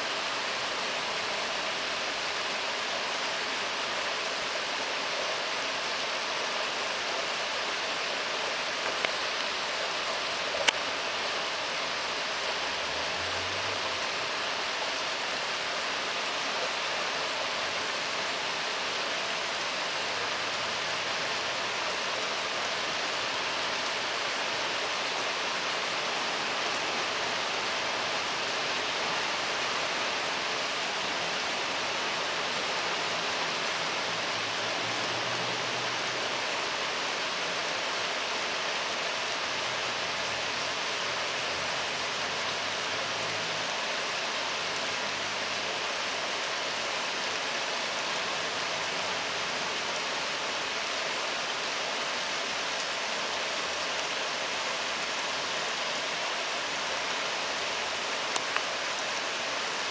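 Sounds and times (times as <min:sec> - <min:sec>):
shallow stream rushing: 0:00.0 - 0:59.9.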